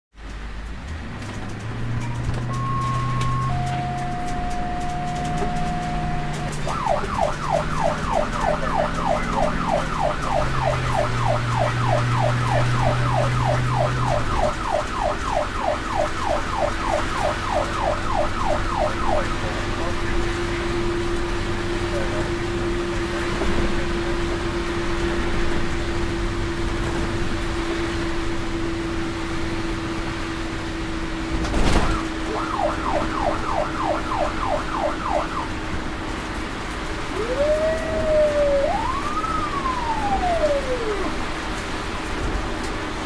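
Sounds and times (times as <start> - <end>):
road noise: 0.1 - 43.0
ambulance siren: 1.8 - 26.6, 30.1 - 42.1.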